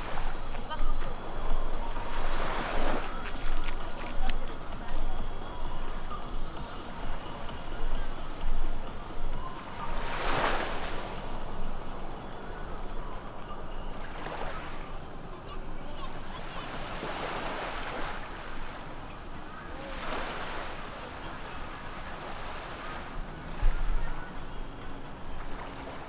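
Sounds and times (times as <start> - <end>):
sea waves breaking on shore: 0.0 - 26.0.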